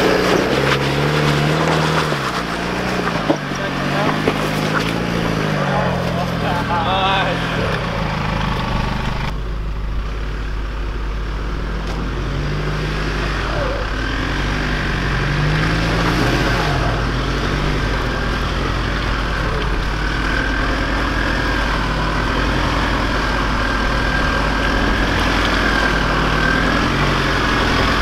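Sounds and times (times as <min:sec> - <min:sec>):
vehicle crawling over rough dirt: 0:00.0 - 0:09.4, 0:11.6 - 0:28.0
vehicle engine at low revs: 0:00.0 - 0:28.0.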